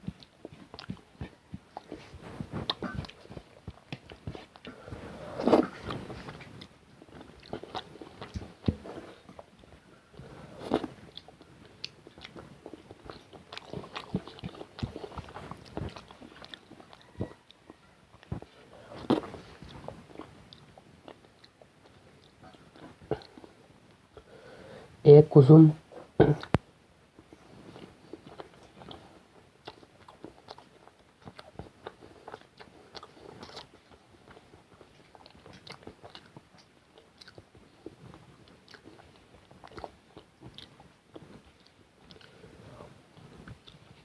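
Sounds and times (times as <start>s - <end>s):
person chewing and smacking: 0.0s - 24.3s, 26.2s - 26.6s, 27.2s - 44.0s.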